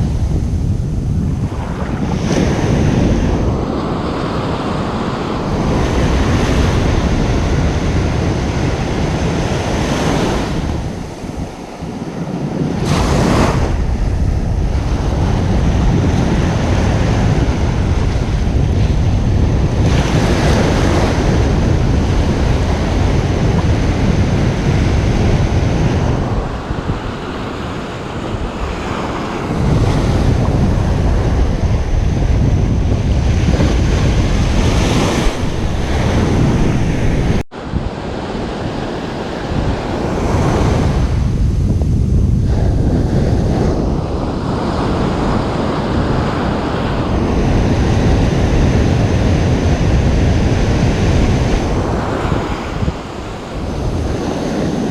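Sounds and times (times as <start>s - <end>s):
ocean surf breaking on beach: 0.0s - 54.9s.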